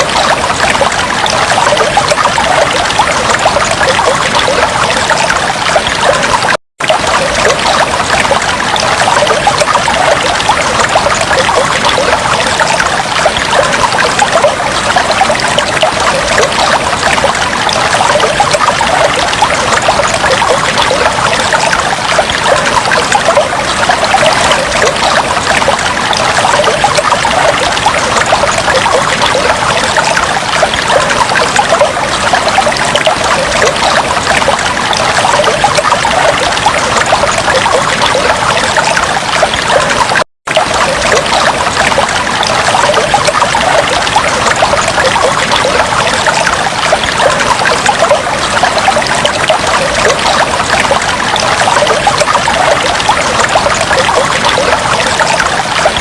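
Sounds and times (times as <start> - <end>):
aquarium water trickling and bubbling: 0.0 - 56.0.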